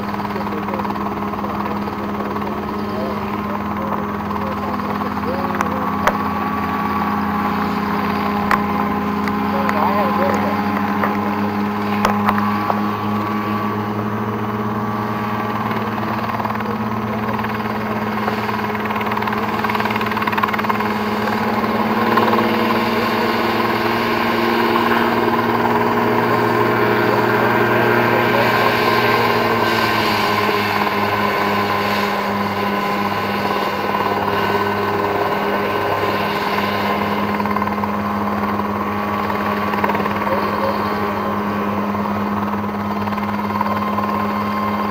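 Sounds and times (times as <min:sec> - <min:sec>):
helicopter engine and rotor drone: 0:00.0 - 0:44.9.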